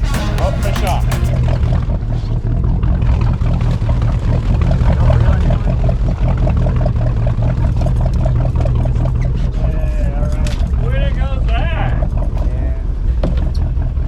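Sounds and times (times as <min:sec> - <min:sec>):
motorboat engine droning: 0:00.0 - 0:13.2.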